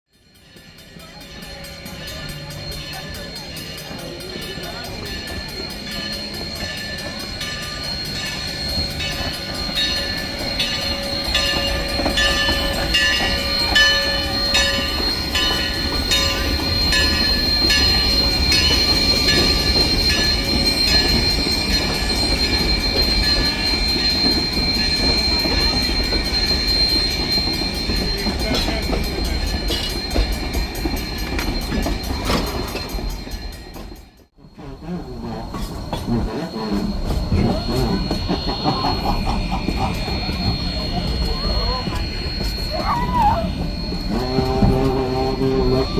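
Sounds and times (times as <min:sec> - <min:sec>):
train rumbling: 0:00.1 - 0:45.9
high-pitched wheel squeal: 0:02.1 - 0:45.9.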